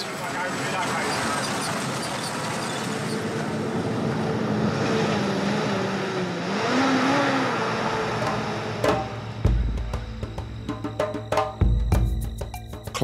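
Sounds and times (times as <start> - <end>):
bus engine running: 0.0 - 10.8
road noise on dirt road: 0.0 - 11.2.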